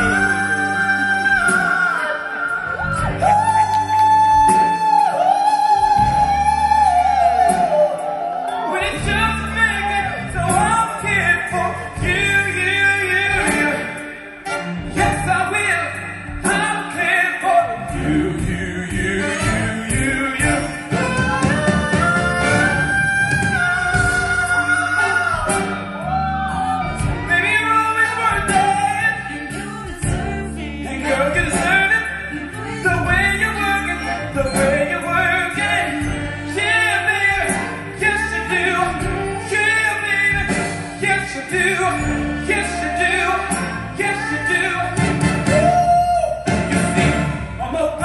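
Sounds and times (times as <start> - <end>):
person singing into a microphone: 0.0 - 14.1, 15.0 - 46.5
instrumental accompaniment: 0.0 - 48.0.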